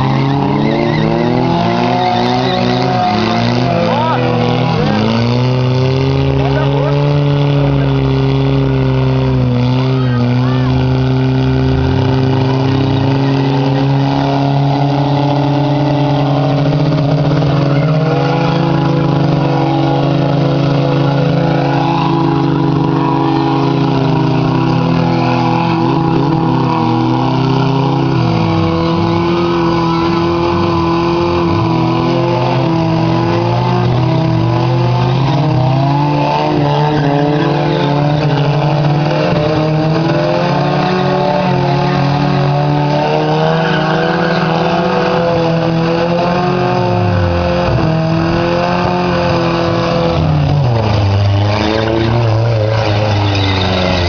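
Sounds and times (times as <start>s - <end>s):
racing engines revving: 0.0s - 54.0s.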